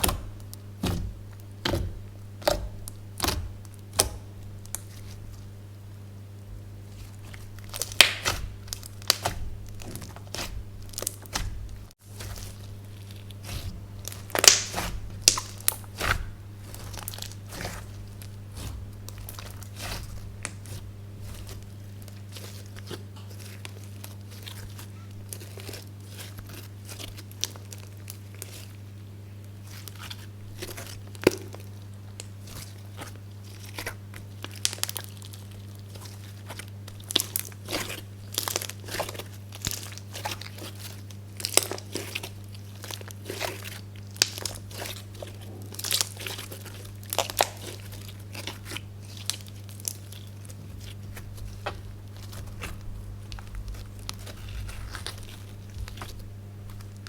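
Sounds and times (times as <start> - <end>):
slime squished by hand: 0.0 - 5.5, 6.5 - 28.8, 29.5 - 57.0
steady low hum: 0.0 - 34.5, 35.2 - 57.0.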